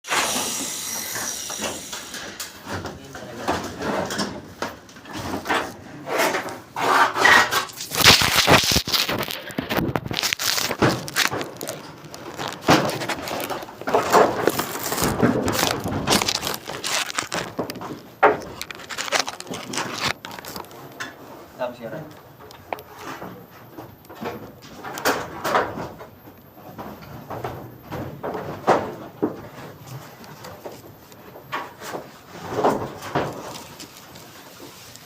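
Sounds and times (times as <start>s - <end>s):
scraping and crackling: 1.8s - 21.5s, 22.1s - 35.0s.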